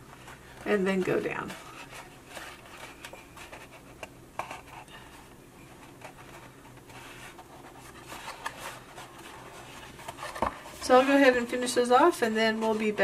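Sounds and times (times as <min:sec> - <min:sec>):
paper rubbing and scratching: 0:00.2 - 0:04.9, 0:05.8 - 0:13.0.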